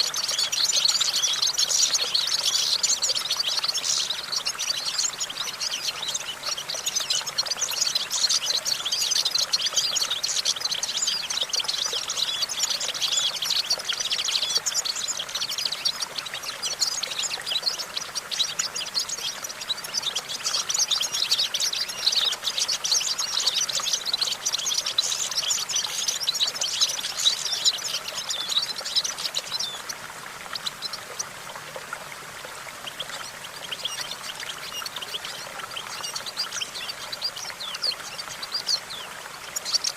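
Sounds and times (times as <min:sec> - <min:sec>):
goldfinch twittering song: 0:00.0 - 0:31.7, 0:32.4 - 0:39.9.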